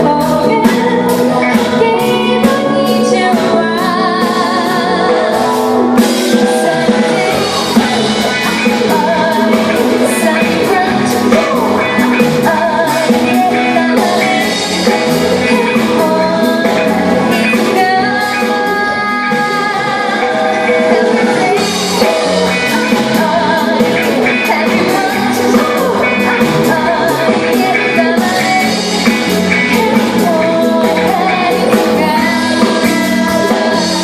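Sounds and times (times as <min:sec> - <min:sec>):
live band playing: 0:00.0 - 0:34.0
person singing with vibrato: 0:00.0 - 0:34.0.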